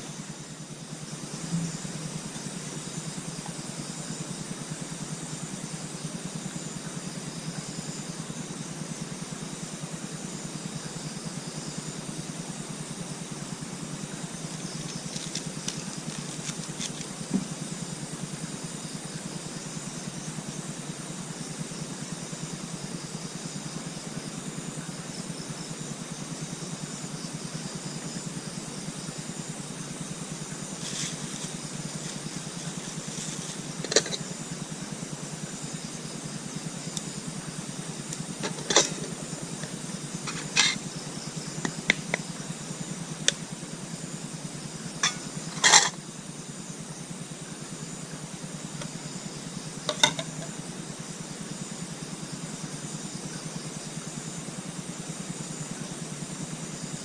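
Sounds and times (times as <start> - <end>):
night insects chorus: 0.0 - 57.0.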